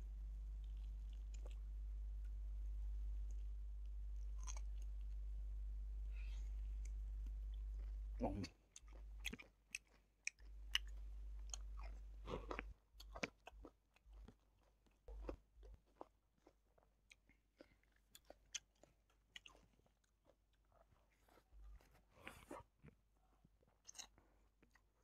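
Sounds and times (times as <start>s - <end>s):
person chewing and mouth sounds: 0.4s - 2.4s, 3.2s - 5.2s, 6.2s - 23.0s, 23.8s - 25.0s.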